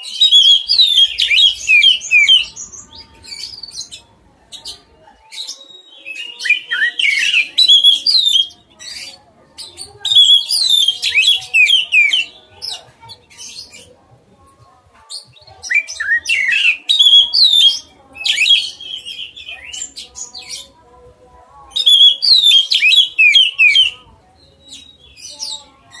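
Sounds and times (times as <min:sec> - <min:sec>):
songbird singing: 0:00.0 - 0:20.8, 0:21.6 - 0:26.0.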